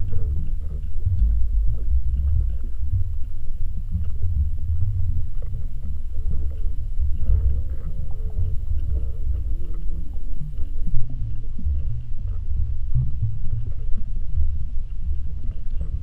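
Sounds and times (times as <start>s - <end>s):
faint wavering tones: 0.0s - 16.0s
water rushing underwater: 0.0s - 16.0s.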